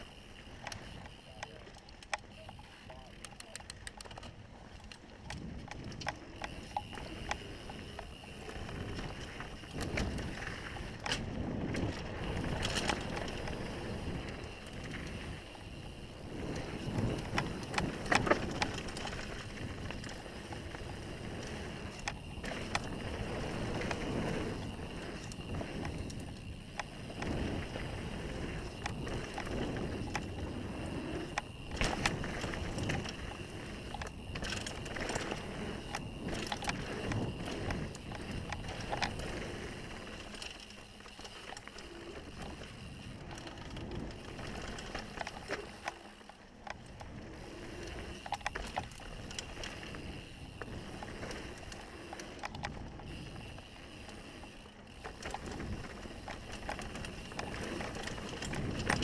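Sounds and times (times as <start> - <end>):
bike rattling over bumps: 0.0 - 59.0
bike tyres rolling on dirt: 0.0 - 59.0.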